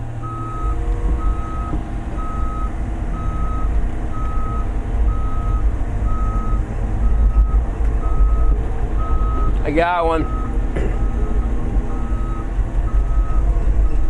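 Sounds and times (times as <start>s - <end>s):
engine rumble: 0.0s - 14.0s
excavator alarm beeping: 0.1s - 14.0s.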